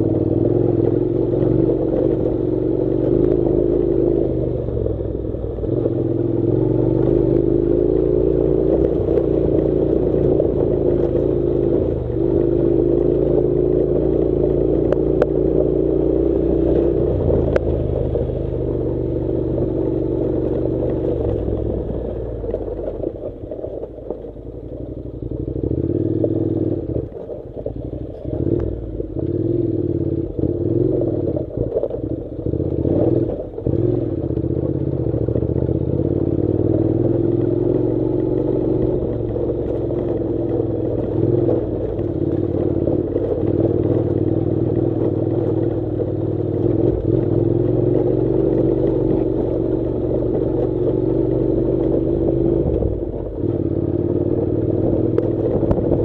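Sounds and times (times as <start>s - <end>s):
motorcycle engine running: 0.0s - 56.0s
stones clattering under tyres: 5.5s - 56.0s.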